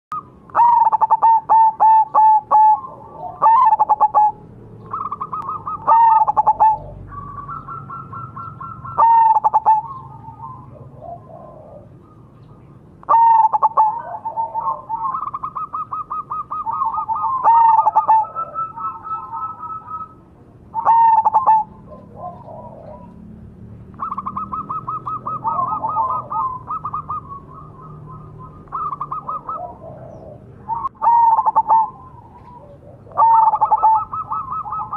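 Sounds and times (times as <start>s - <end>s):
trilled coos: 0.1s - 12.2s, 13.0s - 23.3s, 23.9s - 34.9s
dove cooing: 0.1s - 34.9s.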